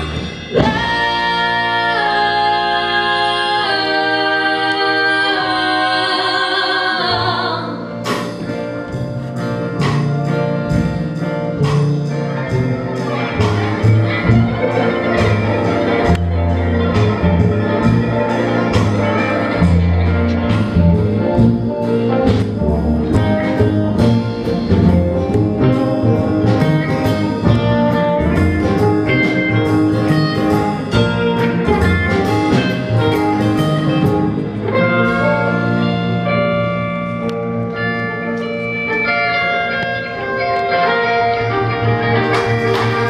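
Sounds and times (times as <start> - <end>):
electric guitar: 0.0 - 43.0
upright bass: 0.0 - 43.0.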